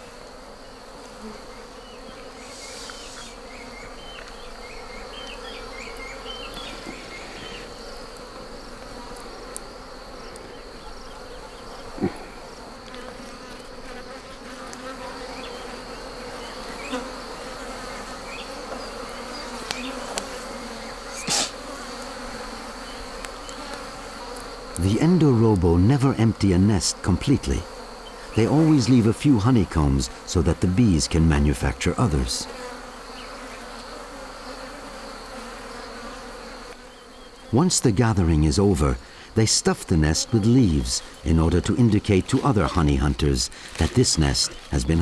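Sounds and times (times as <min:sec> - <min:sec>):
bees buzzing in a swarm: 0:00.0 - 0:45.0.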